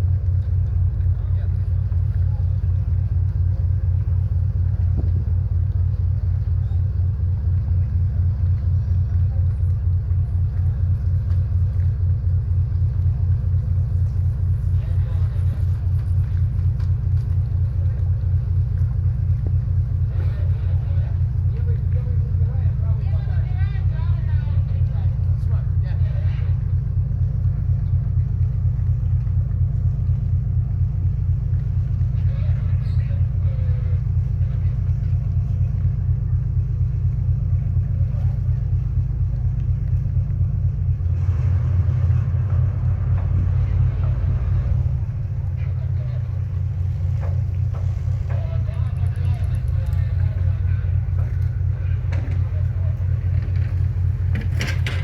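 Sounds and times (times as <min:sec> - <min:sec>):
engine rumble: 0:00.0 - 0:55.0.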